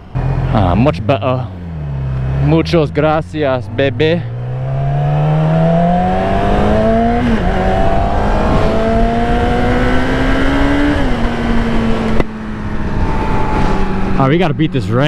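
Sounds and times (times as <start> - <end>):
motorcycle engine shifting gears: 0.0 - 14.3
low wind rush: 0.0 - 15.0.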